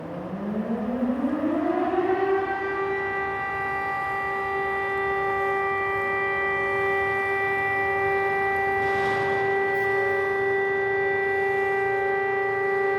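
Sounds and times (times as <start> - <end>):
warning siren wailing: 0.0 - 12.9.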